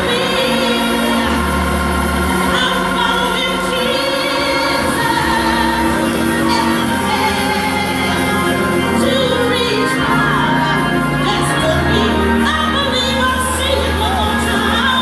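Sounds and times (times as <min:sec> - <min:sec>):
gospel singing with vibrato: 0:00.0 - 0:15.0
held bass notes: 0:00.0 - 0:15.0.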